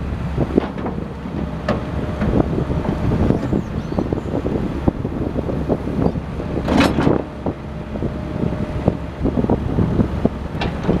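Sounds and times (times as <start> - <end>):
excavator diesel engine running: 0.0 - 11.0
excavator knocks and clanks: 0.2 - 4.2, 6.0 - 11.0.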